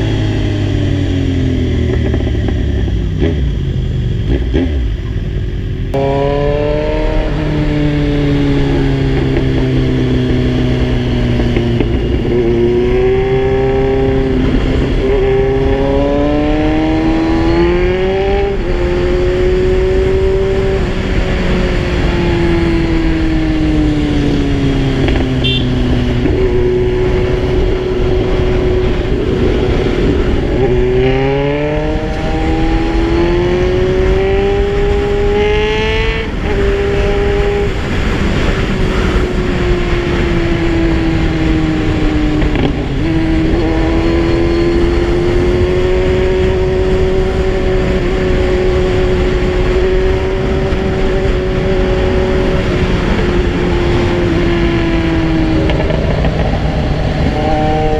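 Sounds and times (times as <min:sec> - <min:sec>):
motorcycle engine changing gears: 0:00.0 - 0:57.9
wind noise: 0:00.0 - 0:57.9.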